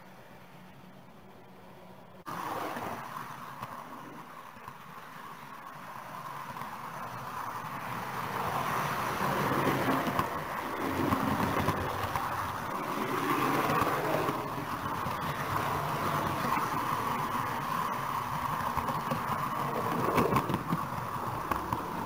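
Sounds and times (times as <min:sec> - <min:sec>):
model train whirring on rails: 0:00.0 - 0:22.0.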